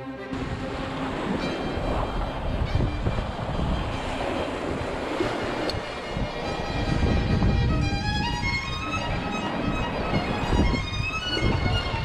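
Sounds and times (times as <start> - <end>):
water rushing past bow: 0.0 - 12.0
wind rumbling on microphone: 0.3 - 12.0.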